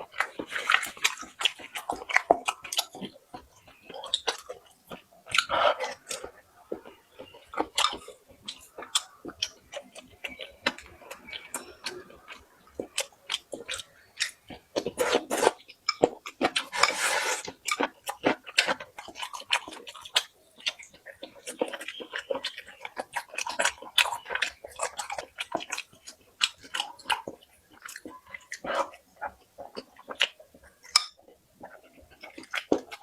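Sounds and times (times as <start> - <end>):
chewing and crunching: 0.0 - 33.0.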